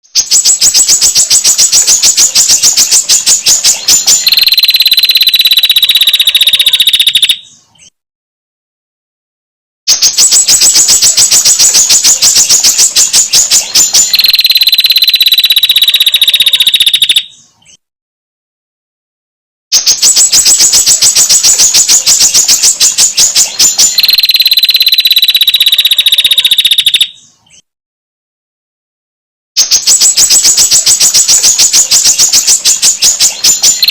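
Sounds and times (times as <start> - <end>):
bird ticking and trilling call: 0.1 - 7.9, 9.9 - 17.8, 19.7 - 27.6, 29.6 - 33.9.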